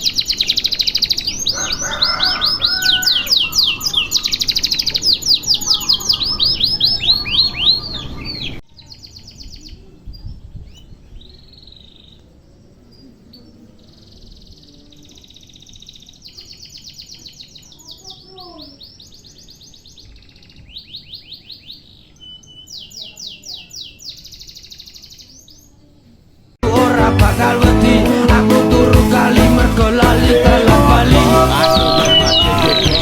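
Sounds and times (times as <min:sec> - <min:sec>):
canary singing trills: 0:00.0 - 0:26.1, 0:31.2 - 0:33.0
faint canary song: 0:00.0 - 0:26.6, 0:31.4 - 0:33.0.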